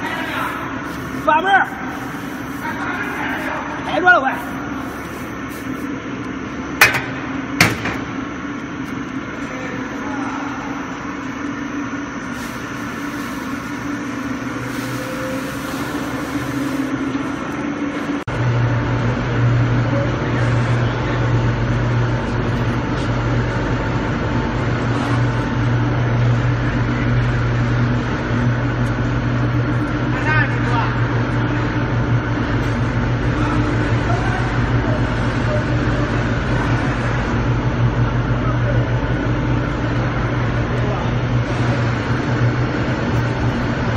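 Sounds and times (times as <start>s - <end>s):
deep loud hum: 0.0s - 43.9s
machinery hum: 0.0s - 43.9s.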